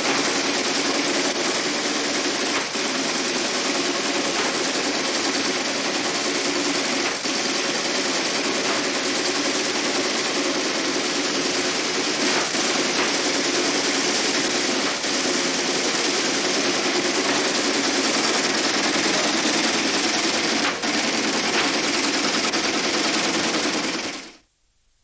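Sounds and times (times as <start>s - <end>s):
rapid mechanical clatter: 0.0s - 24.4s.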